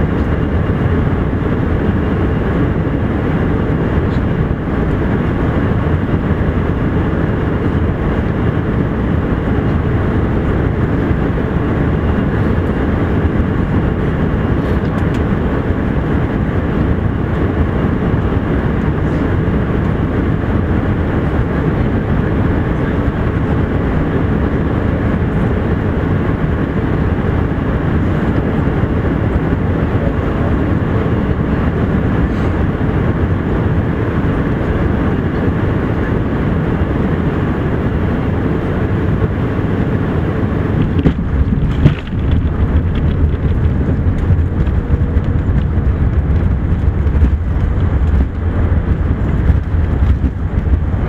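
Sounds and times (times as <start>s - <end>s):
aircraft rolling on runway rumble: 0.0s - 51.0s
airplane cabin airflow and engines: 0.0s - 51.0s.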